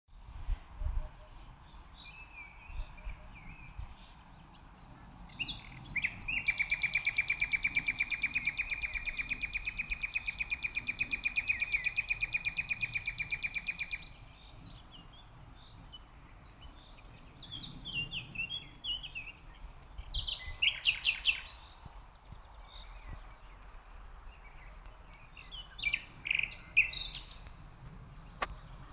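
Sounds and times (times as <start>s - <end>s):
birds chirping: 1.2s - 28.9s.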